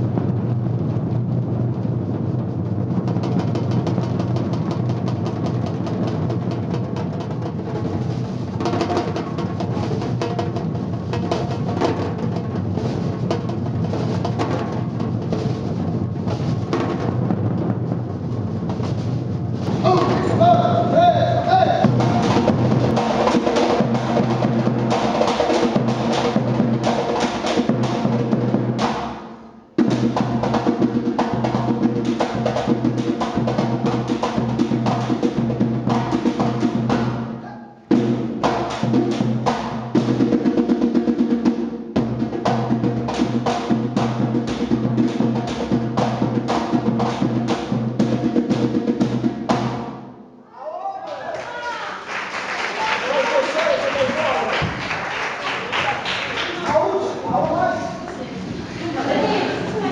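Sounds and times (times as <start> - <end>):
percussion group drumming: 0.0 - 50.2, 51.4 - 58.2.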